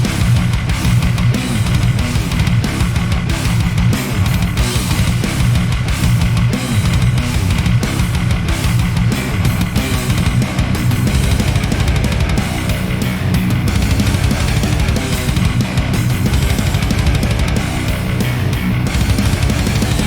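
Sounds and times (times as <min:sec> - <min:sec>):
bass guitar: 0:00.0 - 0:20.0
distorted electric guitar: 0:00.0 - 0:20.0
drums: 0:00.0 - 0:20.0.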